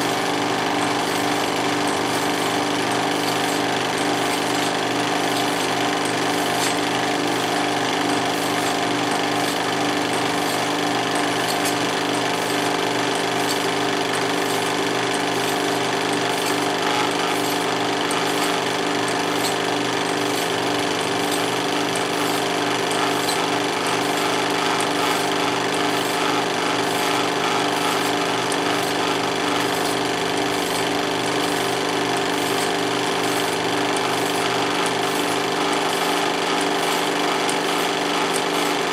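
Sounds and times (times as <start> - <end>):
film projector clatter: 0.0 - 38.9
motor hum: 0.0 - 38.9.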